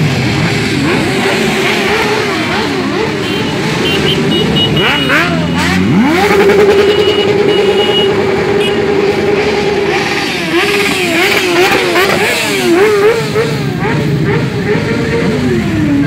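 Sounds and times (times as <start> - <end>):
motorcycle engines revving: 0.0 - 16.0
motorcycles riding past: 0.0 - 16.0.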